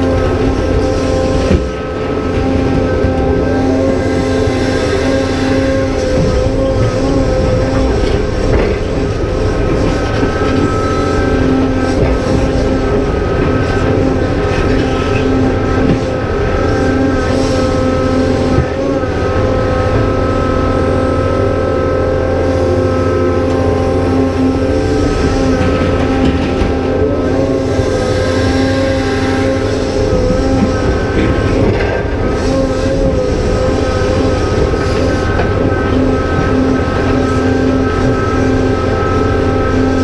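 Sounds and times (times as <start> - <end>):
diesel engine under load: 0.0 - 40.0
hydraulic pump whine: 0.0 - 40.0.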